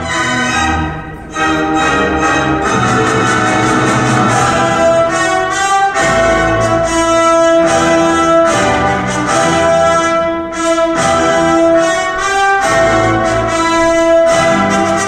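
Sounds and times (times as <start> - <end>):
orchestral brass chords over loudspeakers: 0.0 - 15.0.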